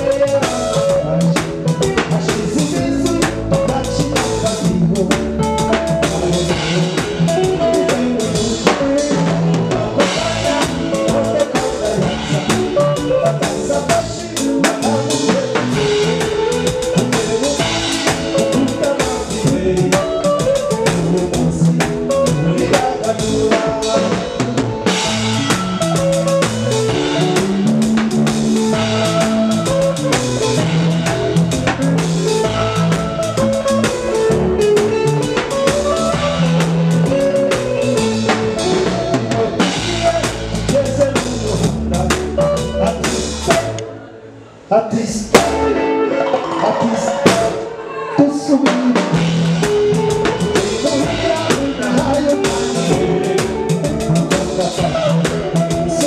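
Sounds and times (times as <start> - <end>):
drum kit beat: 0.0 - 43.9, 45.2 - 56.0
electric bass line: 0.0 - 44.1, 45.2 - 47.8, 48.8 - 56.0
live band playing: 0.0 - 56.0.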